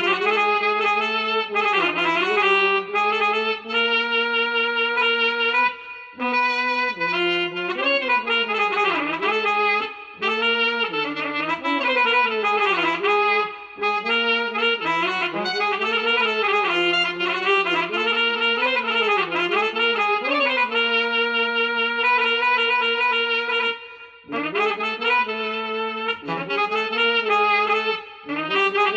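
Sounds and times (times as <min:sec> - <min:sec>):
brass-like solo melody: 0:00.0 - 0:28.9.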